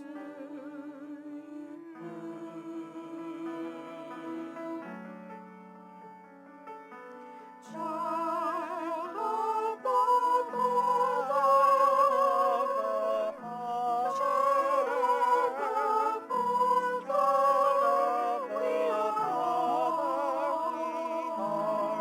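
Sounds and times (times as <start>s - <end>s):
singing with vibrato: 0.0s - 4.9s, 7.7s - 22.0s.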